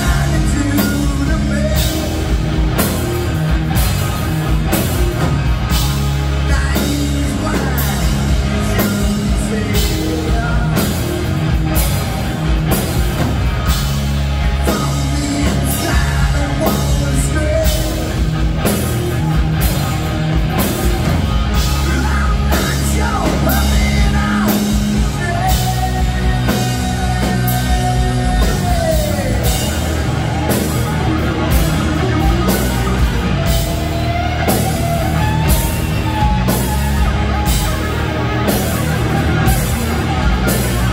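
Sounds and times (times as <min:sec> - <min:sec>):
bass guitar: 0:00.0 - 0:40.9
drum kit beat: 0:00.0 - 0:40.9
electric guitars: 0:00.0 - 0:40.9.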